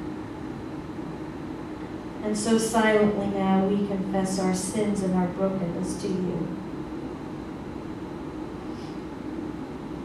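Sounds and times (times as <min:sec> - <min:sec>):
room noise hiss and hum: 0:00.0 - 0:10.0.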